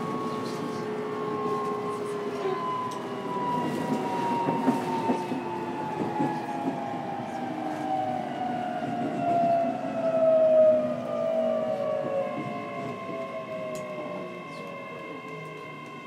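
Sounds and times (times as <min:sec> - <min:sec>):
wheel and rail rumble: 0:00.0 - 0:16.0.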